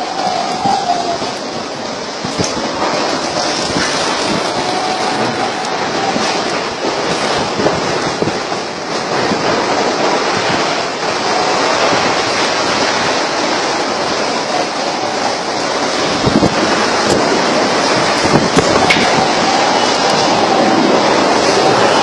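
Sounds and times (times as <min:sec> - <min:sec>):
heavy rain: 0:00.0 - 0:22.0
rushing wind: 0:00.0 - 0:22.0
wind buffeting microphone: 0:00.0 - 0:22.0.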